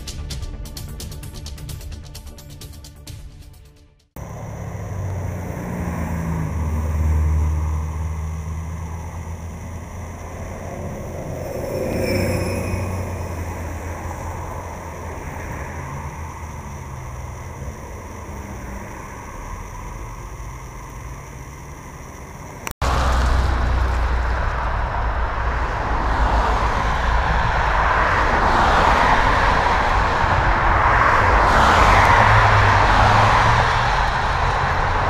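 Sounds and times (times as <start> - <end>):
bus passing: 4.1 - 35.0
cars passing: 4.2 - 35.0.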